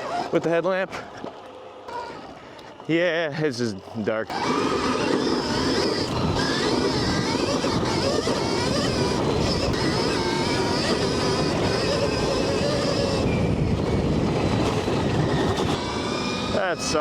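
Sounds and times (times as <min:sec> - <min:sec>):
electric motor whine: 0:00.0 - 0:00.5, 0:03.8 - 0:17.0
tyres rolling on wet trail: 0:00.0 - 0:17.0.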